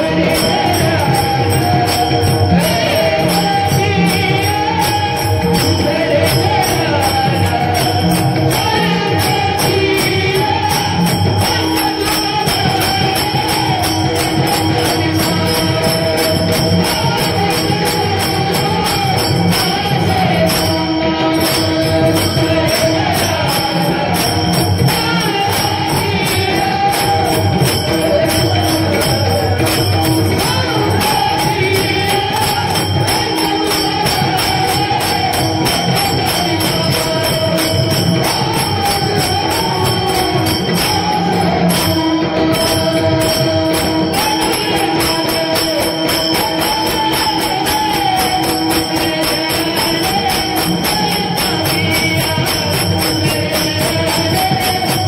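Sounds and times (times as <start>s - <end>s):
drum: 0.0s - 55.0s
hand cymbals struck: 0.0s - 55.0s.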